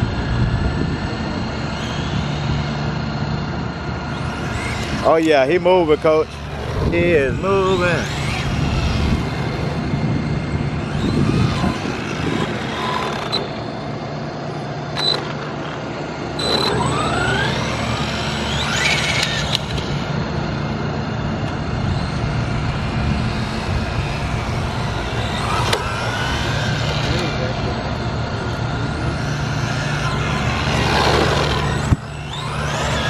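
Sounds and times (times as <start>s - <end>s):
electric motor whining: 0.0s - 33.0s
steady low hum: 0.0s - 33.0s.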